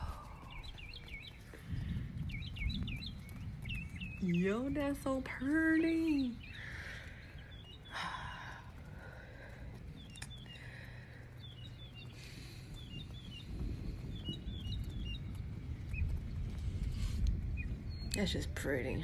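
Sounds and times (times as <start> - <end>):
birds chirping: 0.0 - 19.0
low rumble: 0.0 - 19.0.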